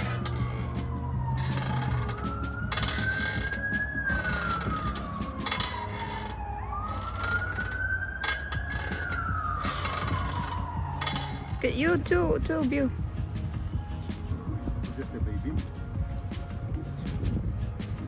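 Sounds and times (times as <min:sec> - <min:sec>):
emergency siren wailing: 0:00.0 - 0:15.9.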